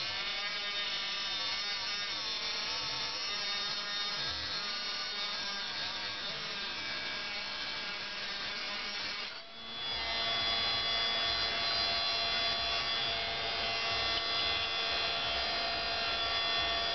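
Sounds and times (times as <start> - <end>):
cutting disc grinding steel: 0.0 - 16.9.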